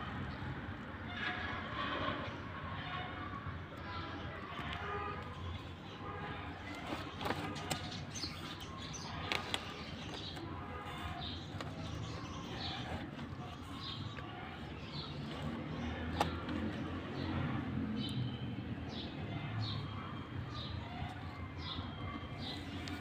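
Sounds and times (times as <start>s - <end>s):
small birds chirping: 4.5s - 23.0s.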